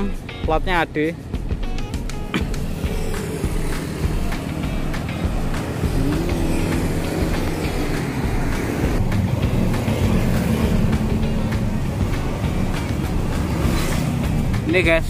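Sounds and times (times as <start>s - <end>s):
steady engine hum: 0.0s - 15.0s
traffic rumble: 0.0s - 15.0s
engine rising in pitch: 2.4s - 14.5s.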